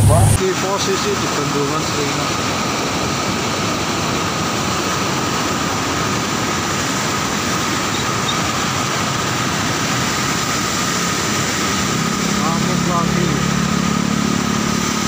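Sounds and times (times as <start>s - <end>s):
river water rushing over weir: 0.0s - 15.0s.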